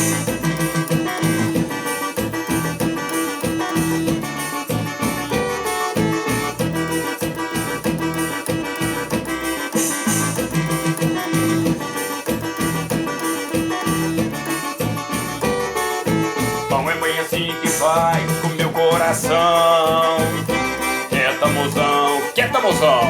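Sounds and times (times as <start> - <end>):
accordion lead: 0.0 - 23.0
guitar: 0.0 - 23.0
steady drum beat: 0.0 - 23.0.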